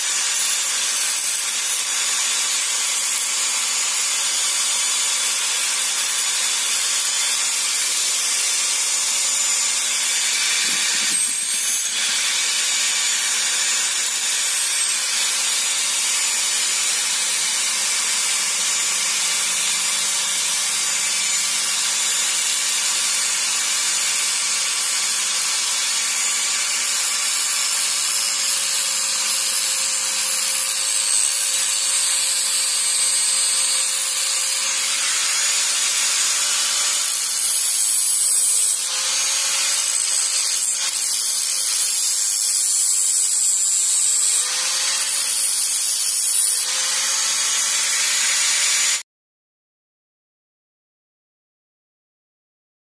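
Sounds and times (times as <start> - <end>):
angle grinder grinding metal: 0.0 - 49.0.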